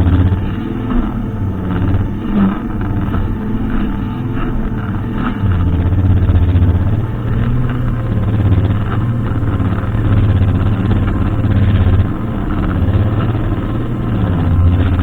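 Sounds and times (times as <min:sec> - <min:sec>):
brushcutter engine running: 0:00.0 - 0:15.0.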